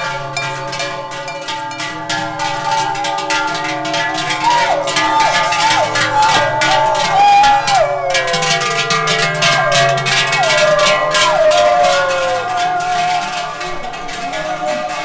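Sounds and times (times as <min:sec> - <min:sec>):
cowbells clanging: 0:00.0 - 0:15.0.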